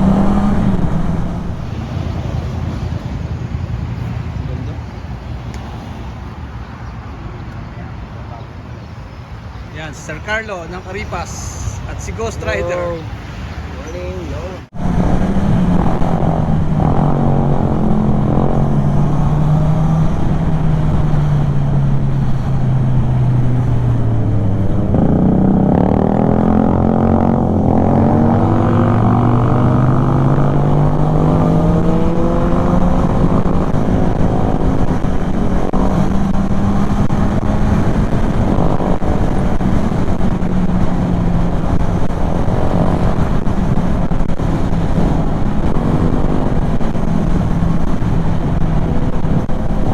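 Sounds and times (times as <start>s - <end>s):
road noise: 0.0s - 49.9s
wind noise: 0.0s - 49.9s.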